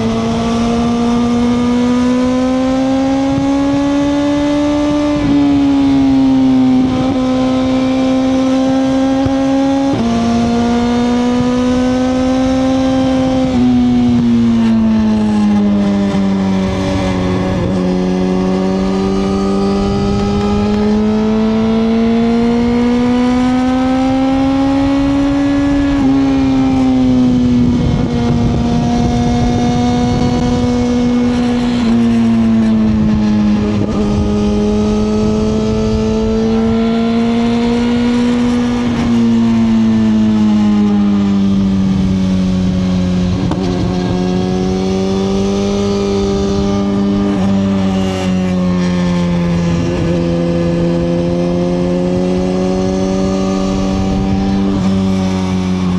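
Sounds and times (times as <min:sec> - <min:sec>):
motorcycle engine revving: 0:00.0 - 0:55.9
road and wind noise: 0:00.0 - 0:55.9.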